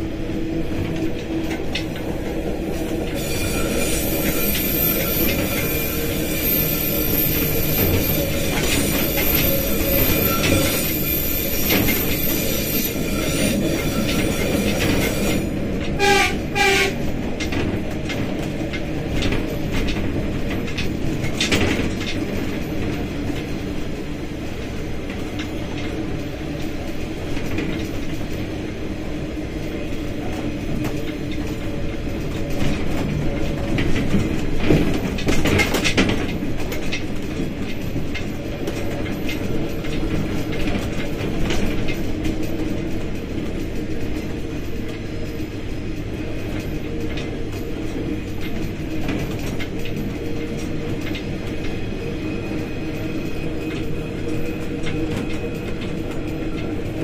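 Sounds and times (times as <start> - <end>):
diesel locomotive engine drone: 0.0 - 57.0
train wheels rattling and clicking: 0.0 - 57.0.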